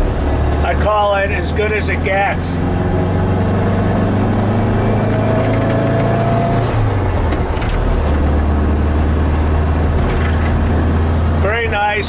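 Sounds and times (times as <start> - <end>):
van engine accelerating: 0.0 - 12.0.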